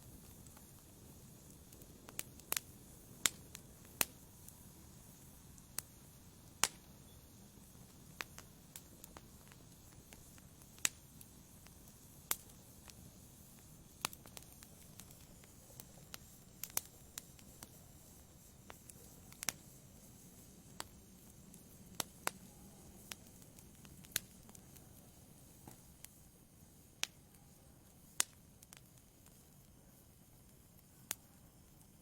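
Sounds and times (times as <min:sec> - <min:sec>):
fire pops and snaps: 0:00.0 - 0:26.2, 0:26.8 - 0:27.3, 0:27.9 - 0:32.0
low hiss of flames: 0:00.0 - 0:32.0
wood fire crackling: 0:00.0 - 0:32.0.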